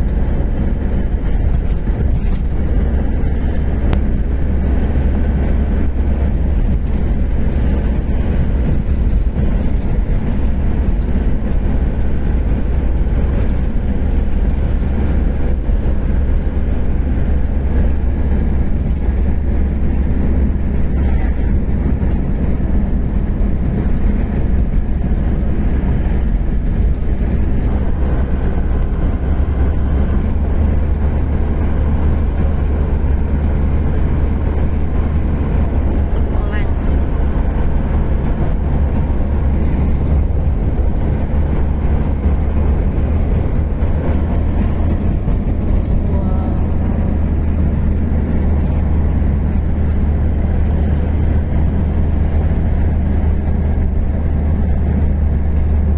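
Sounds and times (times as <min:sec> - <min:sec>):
vehicle interior road rumble: 0:00.0 - 0:55.9.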